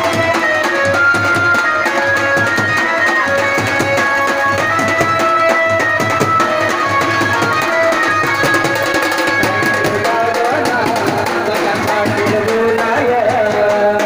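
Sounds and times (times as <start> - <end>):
drums beaten in fast rhythm: 0.0 - 14.0.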